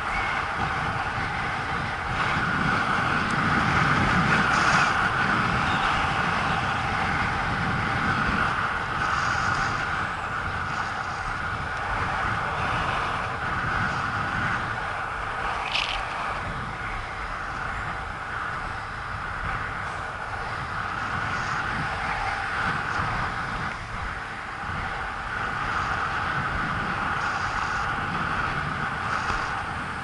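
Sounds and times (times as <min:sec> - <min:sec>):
skate wheels rolling on asphalt: 0:00.0 - 0:30.0
wind rushing over microphone: 0:00.0 - 0:30.0.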